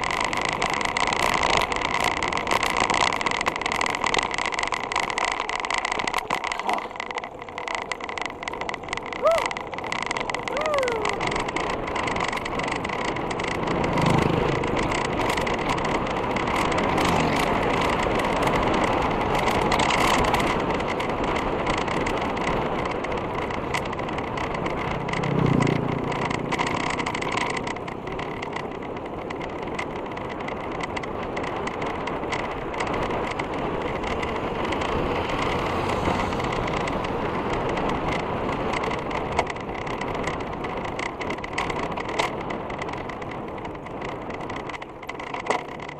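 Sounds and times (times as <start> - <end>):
wind and road rushing: 0.0 - 45.9
motorcycle passing: 6.0 - 44.6.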